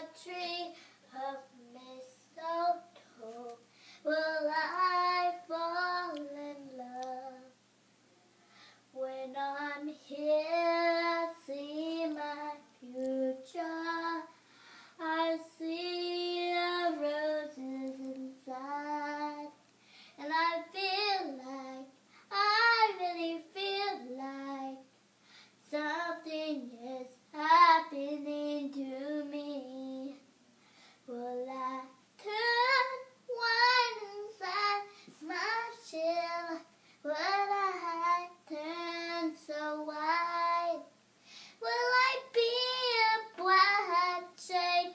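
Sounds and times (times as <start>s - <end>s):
girl singing unaccompanied: 0.0s - 7.6s, 8.9s - 25.0s, 25.6s - 30.3s, 31.0s - 44.9s.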